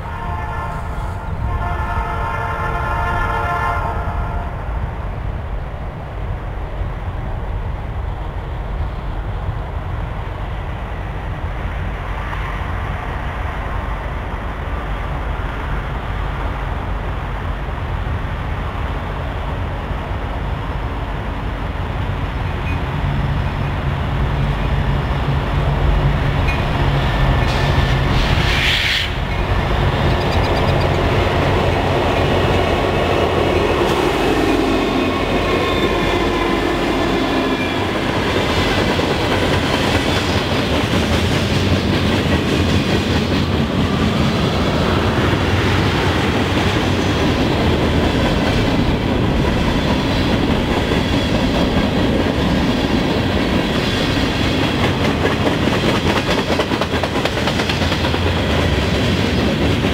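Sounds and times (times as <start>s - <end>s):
diesel locomotive engines rumbling: 0.0s - 59.9s
train wheels on rails: 0.0s - 59.9s.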